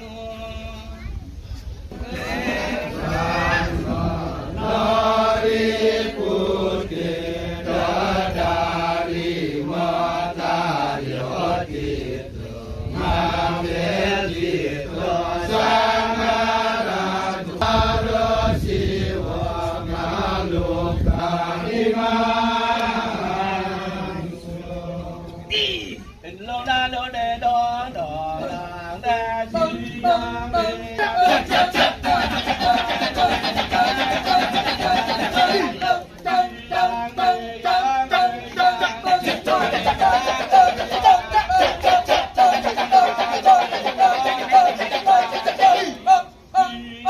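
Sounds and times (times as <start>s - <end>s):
voices chanting: 1.8s - 47.0s.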